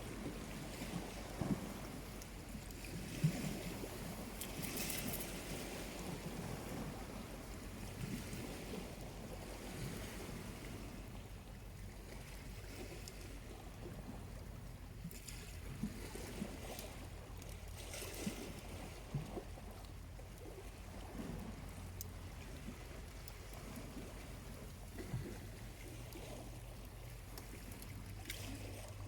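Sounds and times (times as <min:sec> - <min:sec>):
small waves washing in: 0:00.0 - 0:29.0.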